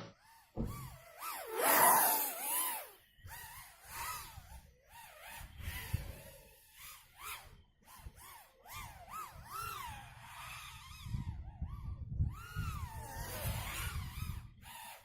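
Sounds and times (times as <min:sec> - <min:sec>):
quadcopter motor whine: 0:00.0 - 0:15.0.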